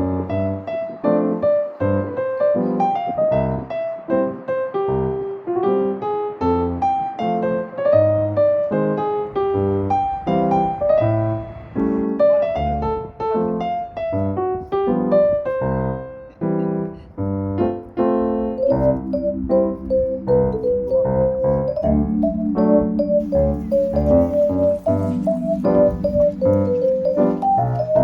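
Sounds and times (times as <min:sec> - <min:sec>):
light piano tune with bass: 0:00.0 - 0:28.0.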